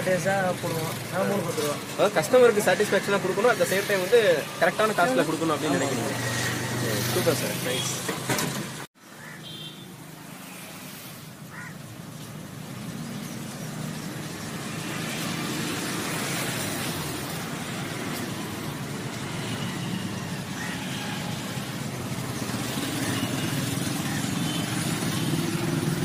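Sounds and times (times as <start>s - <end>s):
road traffic with passing vehicles: 0.0s - 26.0s.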